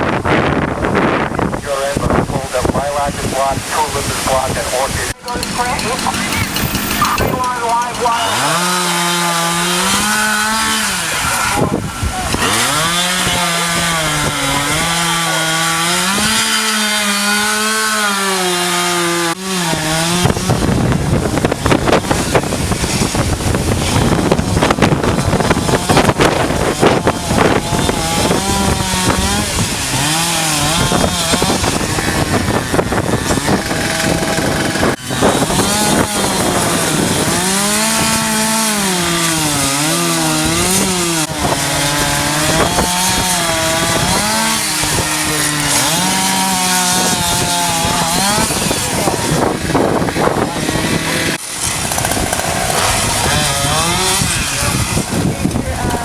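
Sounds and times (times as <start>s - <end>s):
chainsaw cutting through wood: 5.1s - 56.0s
chainsaw revving: 5.2s - 56.0s.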